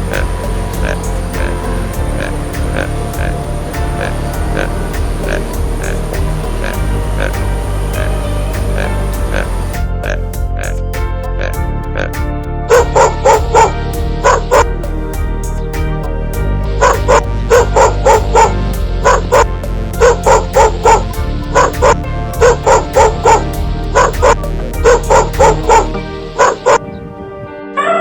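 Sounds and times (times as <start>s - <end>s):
background music: 0.0s - 28.0s.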